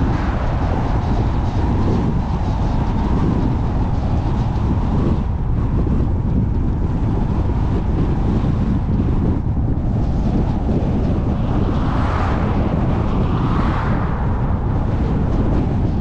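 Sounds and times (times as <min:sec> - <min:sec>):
tyre and road noise: 0:00.0 - 0:16.0
wind buffeting microphone: 0:00.0 - 0:16.0.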